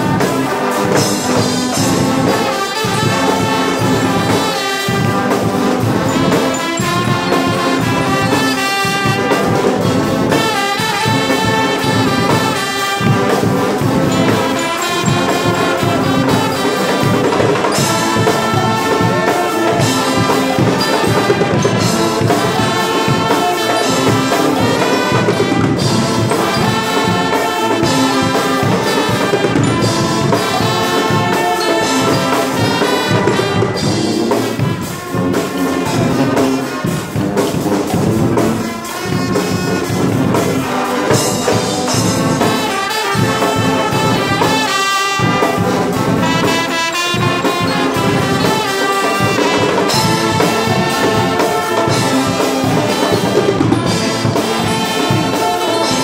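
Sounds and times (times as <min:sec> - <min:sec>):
brass band playing: 0:00.0 - 0:56.0
drum kit: 0:00.0 - 0:56.0.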